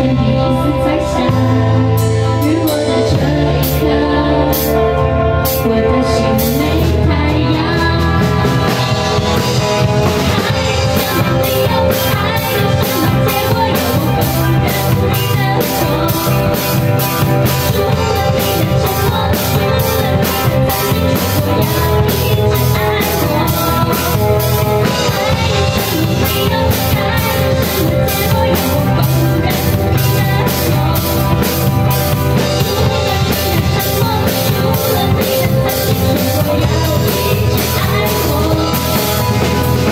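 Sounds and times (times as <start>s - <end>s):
guitar: 0.0s - 39.9s
person singing: 0.0s - 39.9s
drum kit beat: 6.4s - 39.9s.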